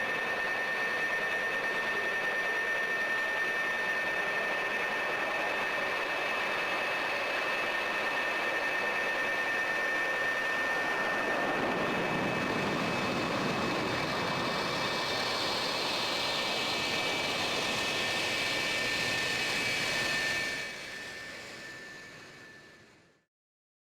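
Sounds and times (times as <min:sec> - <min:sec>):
jet engines roaring: 0:00.0 - 0:22.9
high jet whine: 0:00.0 - 0:23.0.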